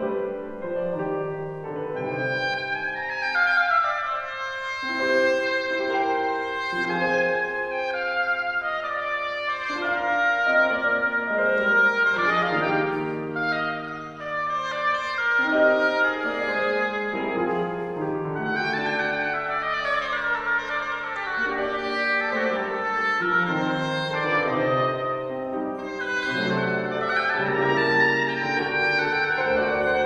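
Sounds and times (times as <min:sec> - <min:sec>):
grand piano chords: 0:00.0 - 0:30.0
oboe playing slow melody: 0:00.0 - 0:30.0.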